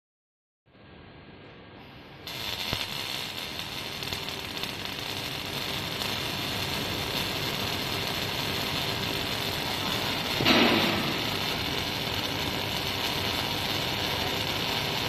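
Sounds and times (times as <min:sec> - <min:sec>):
welder arc striking: 0:02.2 - 0:15.0
welding arc crackling hiss: 0:02.2 - 0:15.0.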